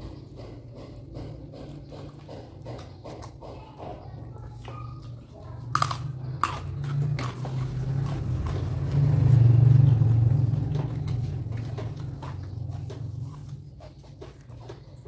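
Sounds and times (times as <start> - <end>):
chewing raw vegetables: 0.0 - 15.0.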